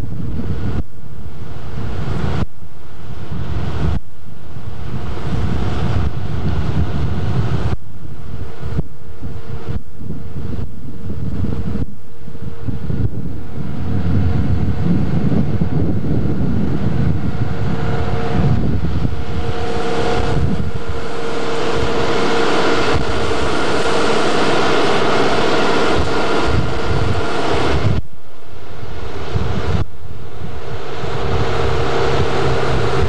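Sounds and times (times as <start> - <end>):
small boat motor running: 0.0 - 33.0
wind rushing on microphone: 0.0 - 33.0.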